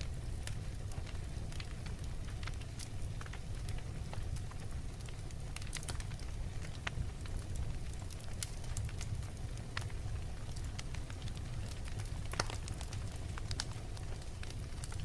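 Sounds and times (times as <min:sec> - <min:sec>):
fire crackling and popping: 0:00.0 - 0:15.0
low rumble of fire flames: 0:00.0 - 0:15.0.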